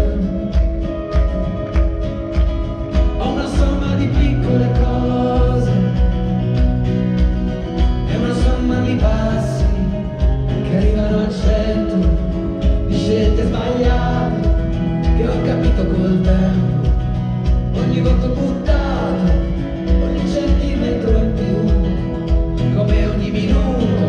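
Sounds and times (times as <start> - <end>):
live band music: 0.0 - 24.0
steady drum beat: 0.0 - 24.0.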